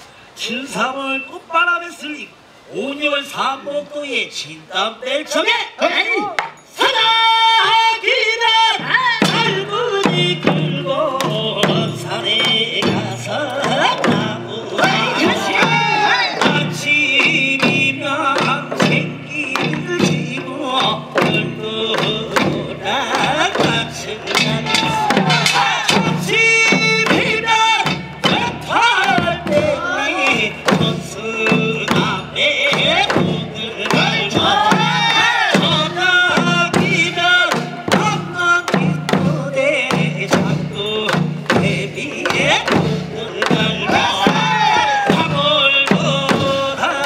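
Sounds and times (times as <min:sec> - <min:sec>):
drums beating dance rhythm: 0:08.5 - 0:47.0.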